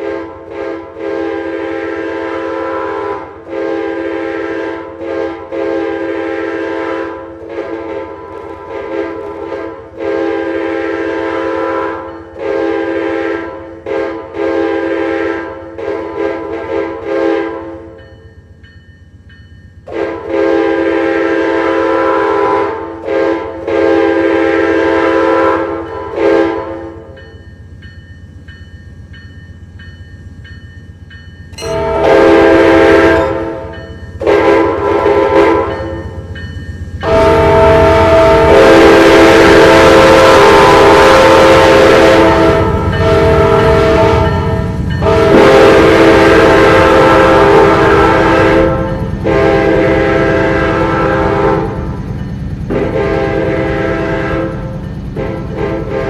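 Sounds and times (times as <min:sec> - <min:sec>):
locomotive air horn blasts: 0:00.0 - 0:18.0, 0:19.9 - 0:27.2, 0:31.6 - 0:36.3, 0:37.0 - 0:52.1, 0:52.7 - 0:56.0.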